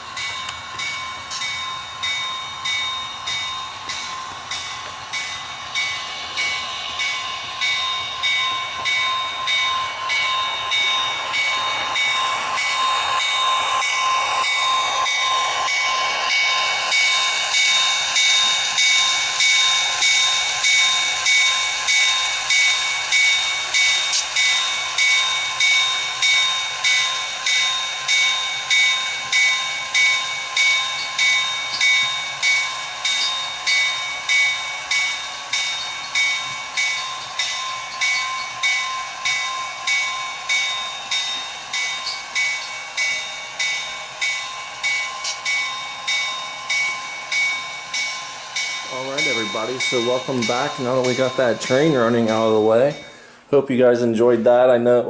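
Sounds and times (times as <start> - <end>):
model train whining: 0.0 - 55.0.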